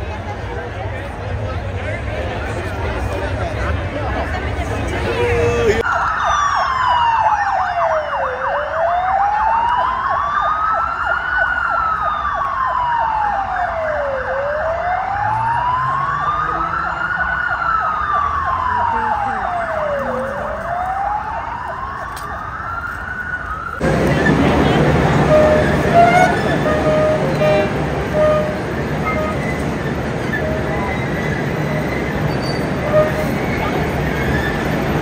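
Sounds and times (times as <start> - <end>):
ambulance siren wailing: 5.3 - 35.0.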